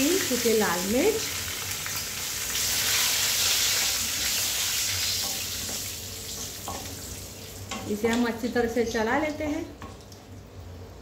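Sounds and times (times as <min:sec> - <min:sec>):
chillies sizzling in hot oil: 0:00.0 - 0:10.1.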